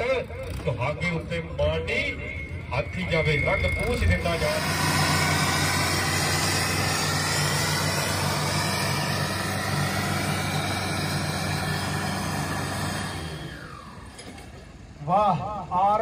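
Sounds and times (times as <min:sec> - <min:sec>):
tractor engines running hard: 0:00.0 - 0:16.0.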